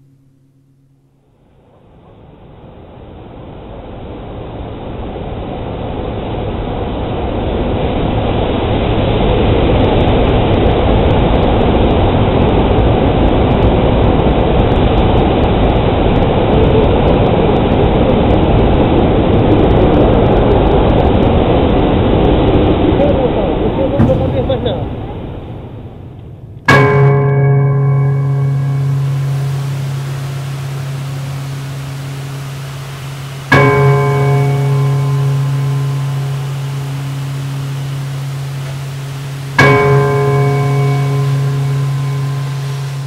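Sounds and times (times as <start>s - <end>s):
dense noise with deep rumble: 0.0s - 43.0s.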